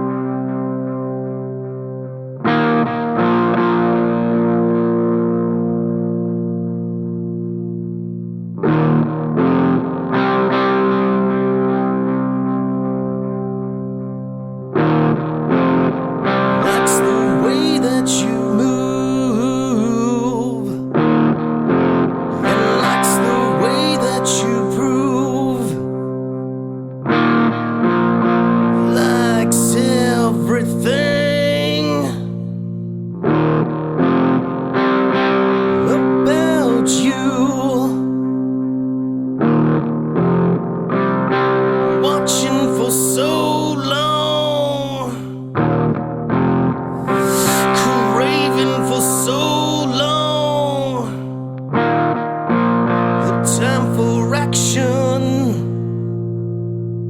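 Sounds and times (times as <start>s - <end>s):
distorted electric guitar chords: 0.0s - 57.0s.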